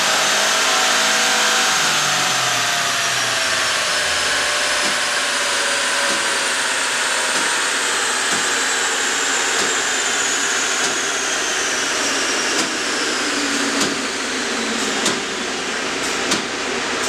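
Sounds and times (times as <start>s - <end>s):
dyno rollers and fan rushing: 0.0s - 17.0s
high whine falling in pitch: 0.6s - 17.0s.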